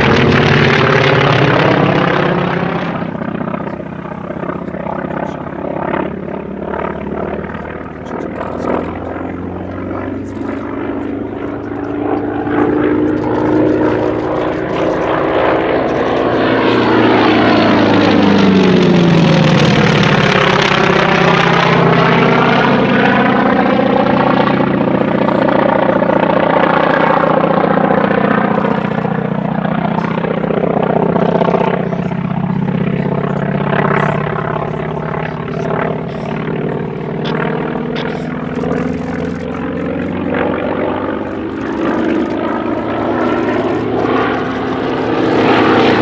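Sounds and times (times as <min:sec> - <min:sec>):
propeller plane passing by: 0:00.0 - 0:46.0.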